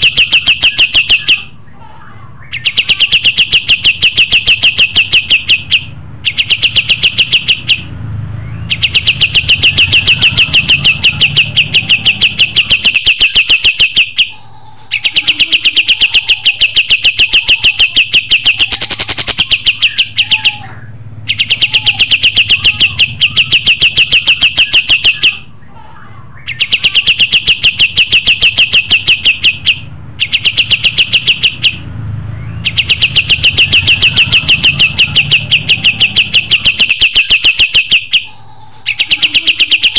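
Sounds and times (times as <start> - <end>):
faint bird chirps: 0.0 - 39.9
songbird rapid pulsed trill: 2.5 - 20.6, 21.3 - 25.4, 26.4 - 39.9.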